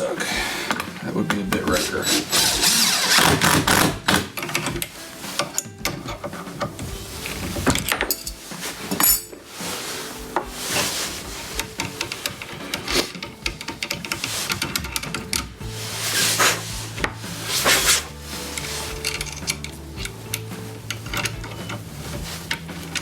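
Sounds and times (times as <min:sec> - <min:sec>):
tools clicking and knocking: 0:00.7 - 0:09.4, 0:10.3 - 0:23.0.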